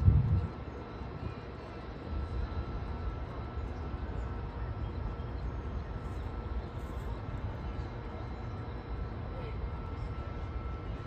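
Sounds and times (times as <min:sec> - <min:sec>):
faint constant hum: 0:00.0 - 0:11.0
low outdoor rumble: 0:00.0 - 0:11.0.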